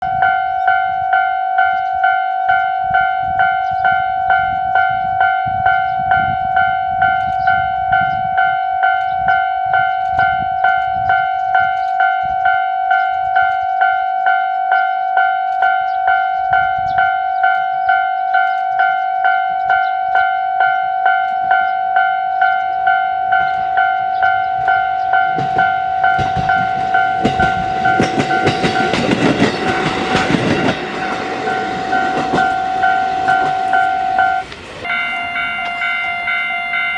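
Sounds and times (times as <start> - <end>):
diesel railcar rumble: 0.0 - 36.9
level crossing bell ringing: 0.0 - 36.9.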